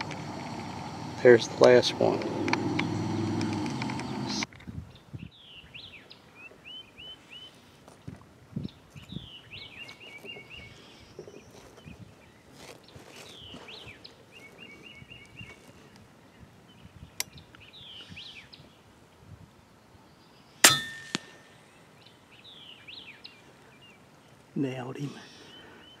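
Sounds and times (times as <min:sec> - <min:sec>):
birds singing: 0:00.0 - 0:07.8, 0:08.6 - 0:26.0.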